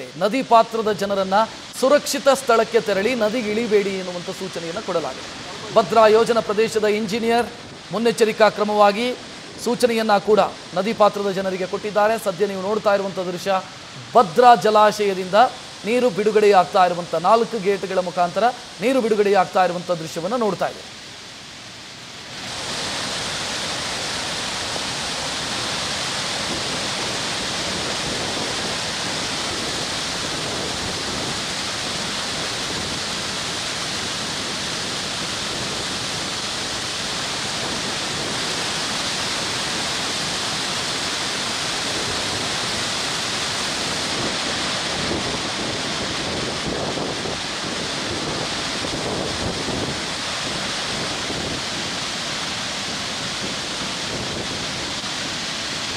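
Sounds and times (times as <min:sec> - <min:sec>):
water rushing down spillway: 0:00.0 - 0:55.9.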